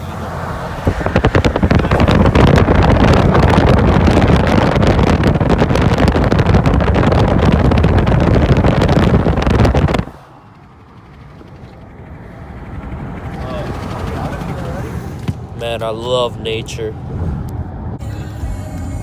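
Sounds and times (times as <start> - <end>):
wind buffeting microphone: 0.0 - 18.0
car road and engine noise: 0.0 - 19.0.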